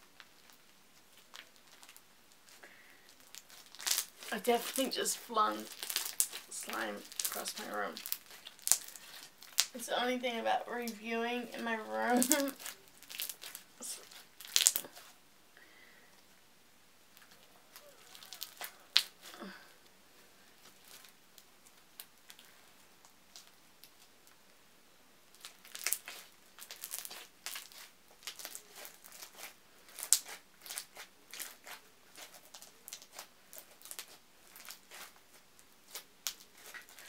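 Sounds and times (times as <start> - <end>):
slime crackling and popping: 0.0 - 9.9, 10.8 - 15.2, 17.1 - 19.6, 20.6 - 24.5, 25.3 - 37.0.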